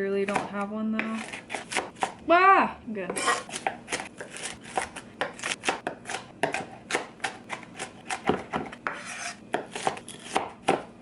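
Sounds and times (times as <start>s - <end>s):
knife chopping on cutting board: 0.3s - 2.2s, 3.1s - 10.9s.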